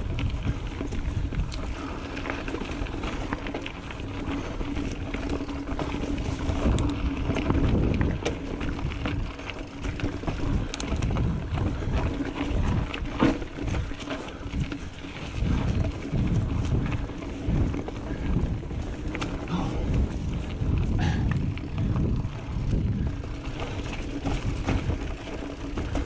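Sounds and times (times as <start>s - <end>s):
bike rattling over rough ground: 0.0s - 26.0s
wind rumbling on microphone: 0.0s - 26.0s.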